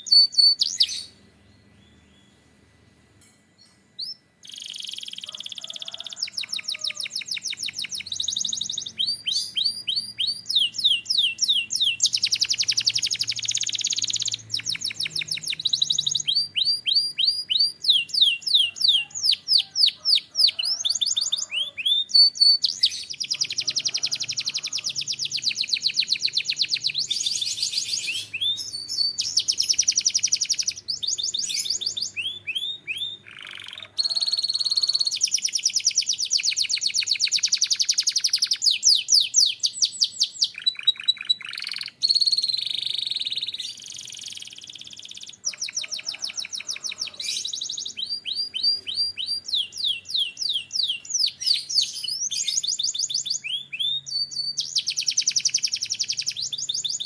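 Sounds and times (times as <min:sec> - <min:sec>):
canary singing trills: 0:00.0 - 0:02.6, 0:03.6 - 0:57.0.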